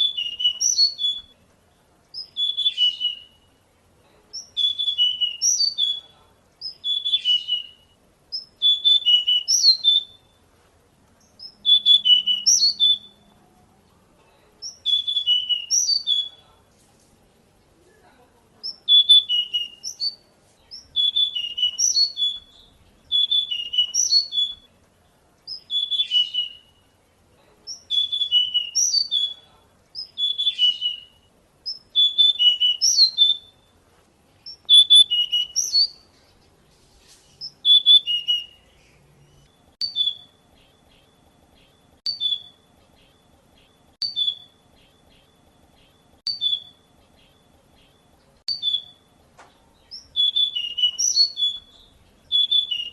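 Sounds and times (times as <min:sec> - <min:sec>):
bird whistling song: 0:00.0 - 0:01.5, 0:02.1 - 0:03.6, 0:04.4 - 0:10.5, 0:11.2 - 0:13.4, 0:14.6 - 0:16.5, 0:18.6 - 0:24.8, 0:25.4 - 0:27.0, 0:27.7 - 0:33.8, 0:34.4 - 0:36.4, 0:37.3 - 0:49.2, 0:49.8 - 0:52.9.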